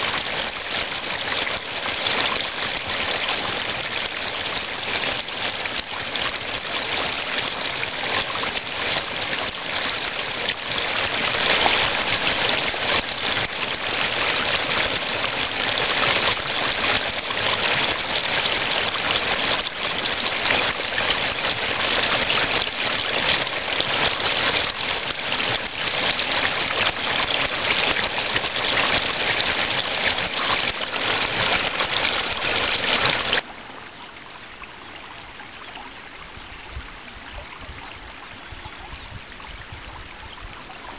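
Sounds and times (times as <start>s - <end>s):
waterfall rushing: 0.0s - 33.5s.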